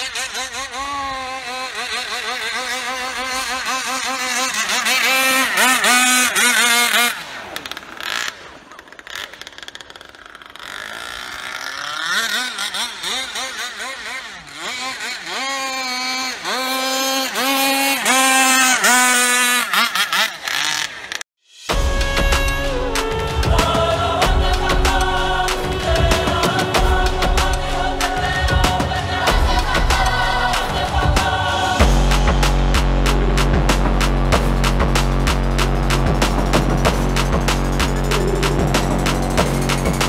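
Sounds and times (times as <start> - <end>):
small two-stroke boat engine revving: 0.0 - 40.0.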